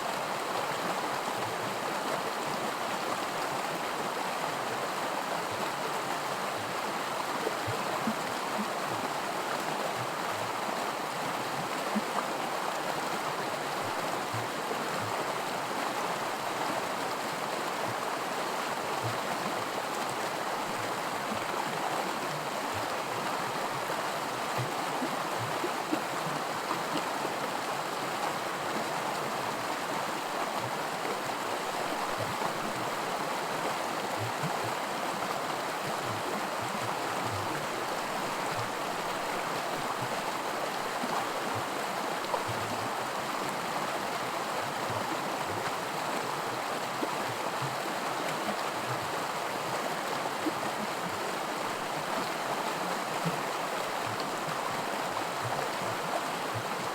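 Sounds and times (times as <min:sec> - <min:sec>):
creek rushing over rapids: 0:00.0 - 0:56.9.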